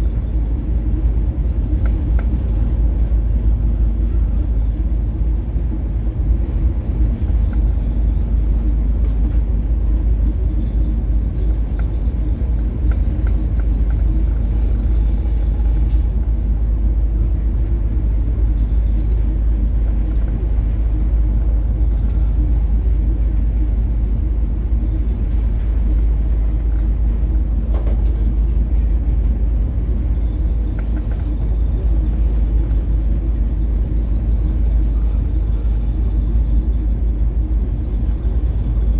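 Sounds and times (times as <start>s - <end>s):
ship diesel engine droning: 0.0s - 38.9s.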